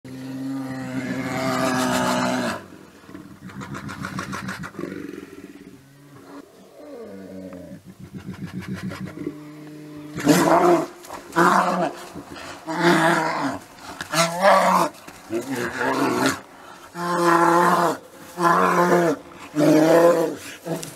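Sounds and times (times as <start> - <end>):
bears growling: 0.1 - 20.9.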